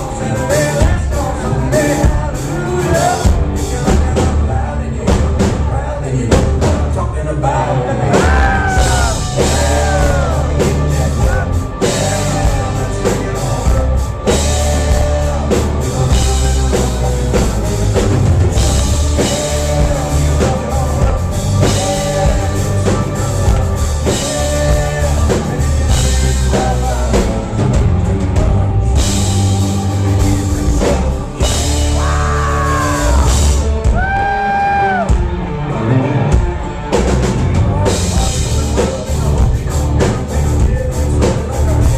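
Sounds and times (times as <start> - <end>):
country-rock band playing: 0.0 - 41.9
drum kit: 0.0 - 41.9
person singing lead vocal: 0.0 - 41.9.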